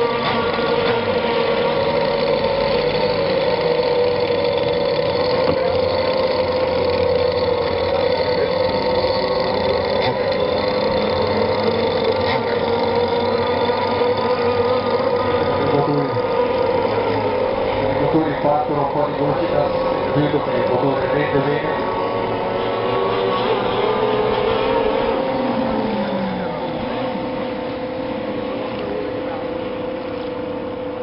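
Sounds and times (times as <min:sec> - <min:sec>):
model boat engine high drone: 0:00.0 - 0:31.0.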